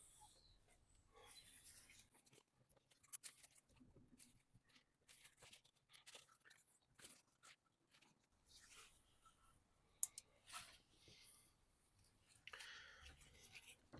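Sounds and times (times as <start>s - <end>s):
small clicks and rustles of hand work: 0.1s - 13.9s.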